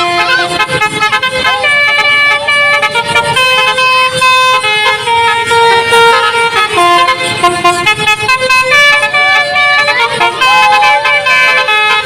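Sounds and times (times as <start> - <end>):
bus horn playing a tune: 0.0 - 12.0.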